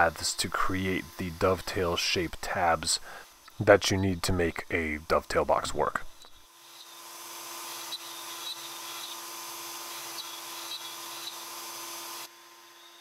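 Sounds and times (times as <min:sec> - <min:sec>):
hiss of bit cutting wood: 0:00.0 - 0:13.0
router spindle whine: 0:00.0 - 0:13.0.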